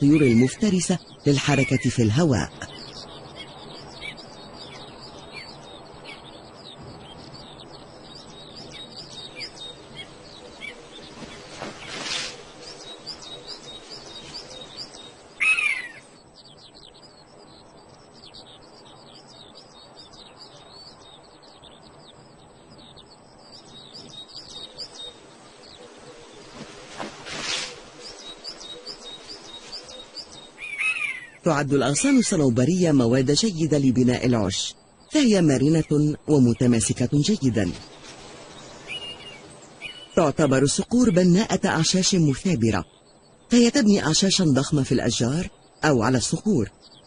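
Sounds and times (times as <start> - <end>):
small birds chirping and trilling: 0.0 - 47.0.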